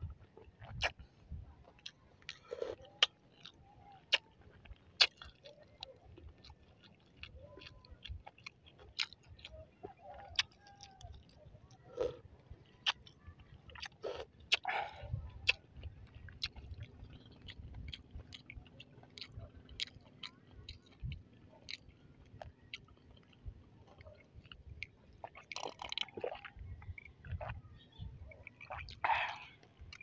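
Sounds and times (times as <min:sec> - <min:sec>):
crunchy chewing with clicks: 0:00.0 - 0:30.0
gulping a drink: 0:00.0 - 0:30.0.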